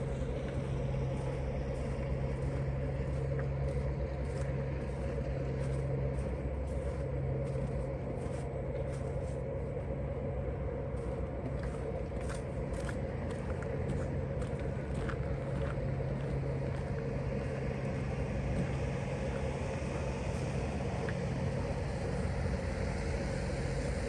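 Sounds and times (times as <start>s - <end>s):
motor vehicles humming: 0.0s - 24.0s.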